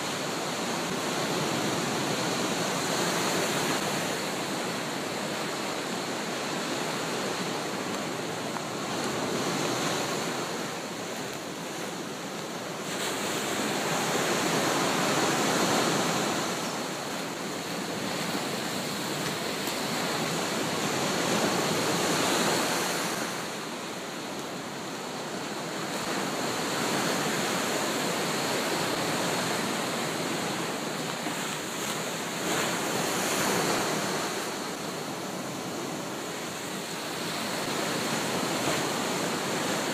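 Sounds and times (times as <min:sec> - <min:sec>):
surf breaking on beach: 0:00.0 - 0:39.9.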